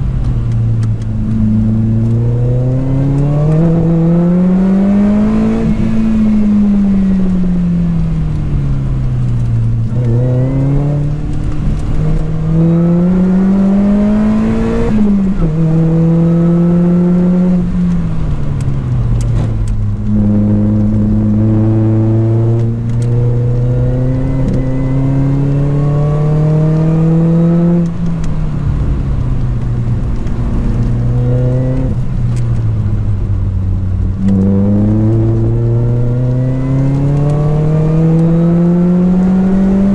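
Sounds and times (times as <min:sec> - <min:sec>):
car engine accelerating and shifting gears: 0:00.0 - 0:39.9.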